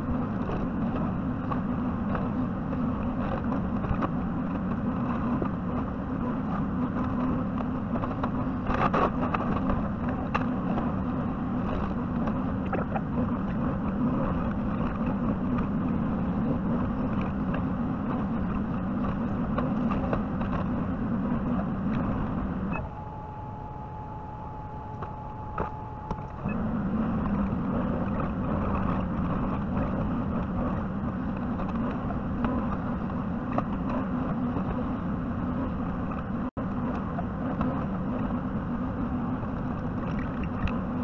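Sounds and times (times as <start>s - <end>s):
clatter: 0.0s - 22.8s, 25.6s - 41.0s
thin steady whine: 0.0s - 41.0s.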